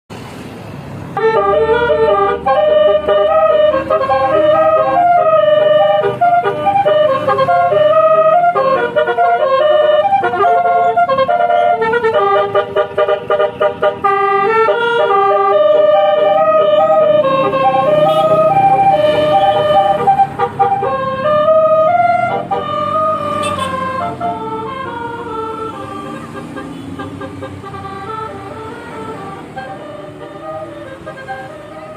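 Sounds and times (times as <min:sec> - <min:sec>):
multi-tone air horn playing a tune: 0:01.2 - 0:31.9.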